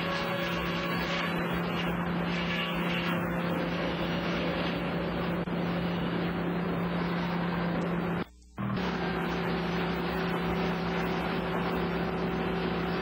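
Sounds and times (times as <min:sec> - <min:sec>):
low motor hum: 0:00.0 - 0:13.0
mechanical rush of conveyors: 0:00.0 - 0:13.0.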